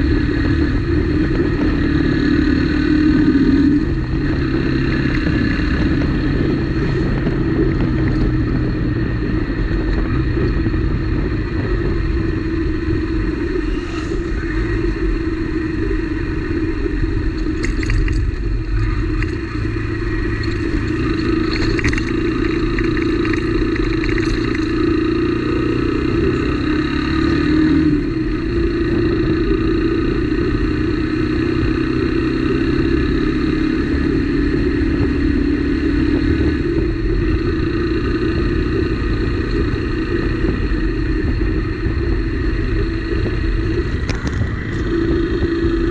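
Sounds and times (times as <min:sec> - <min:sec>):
motorcycle engine running: 0:00.0 - 0:45.9
wind rumble on microphone: 0:00.0 - 0:45.9.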